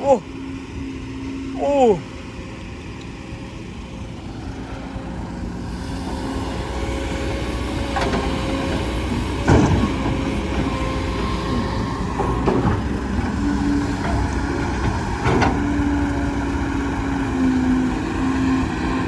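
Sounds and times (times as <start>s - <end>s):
road noise: 0.0s - 19.0s
truck engine accelerating: 0.0s - 19.0s.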